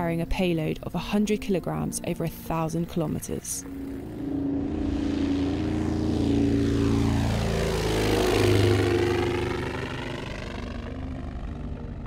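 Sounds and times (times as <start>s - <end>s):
propeller drone flying overhead: 0.0s - 12.0s.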